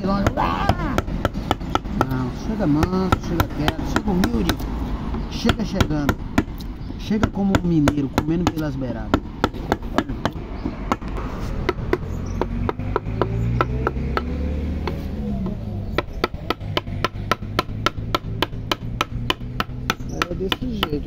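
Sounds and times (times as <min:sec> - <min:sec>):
mallet striking wood chisel: 0:00.1 - 0:04.6, 0:05.4 - 0:15.0, 0:16.0 - 0:21.0.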